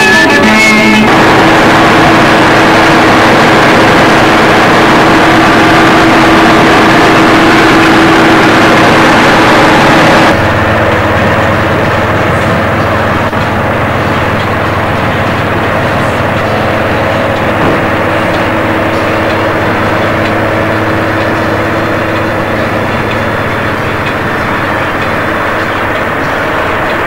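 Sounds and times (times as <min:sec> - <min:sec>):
combine harvester running: 0:00.0 - 0:27.0.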